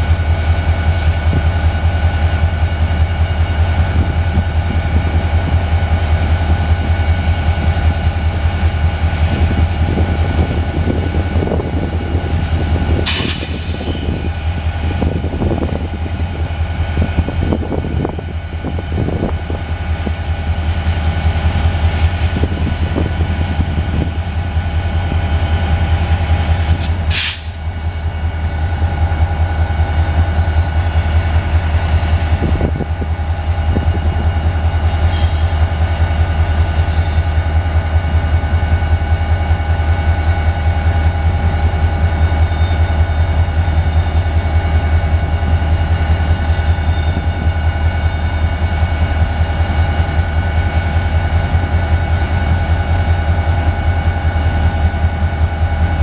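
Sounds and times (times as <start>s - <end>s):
freight train wheels clicking: 0.0s - 16.4s, 19.9s - 32.8s, 33.4s - 56.0s
diesel locomotive idling: 0.0s - 56.0s.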